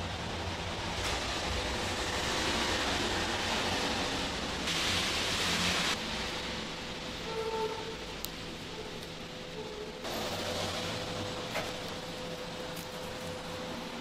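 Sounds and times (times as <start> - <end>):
kitchen equipment fan noise: 0.0 - 14.0.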